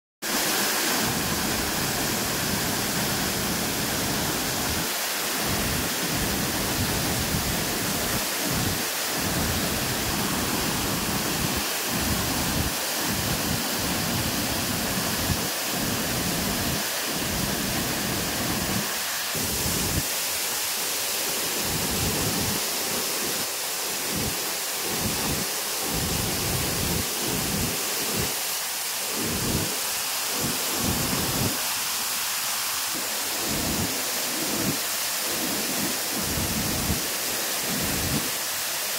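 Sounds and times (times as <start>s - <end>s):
fast-running floodwater rushing: 0.2s - 38.9s.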